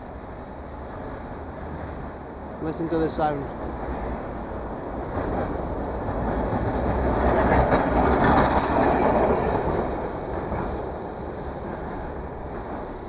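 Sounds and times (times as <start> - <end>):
tram wheels running on rails: 0.0 - 13.0.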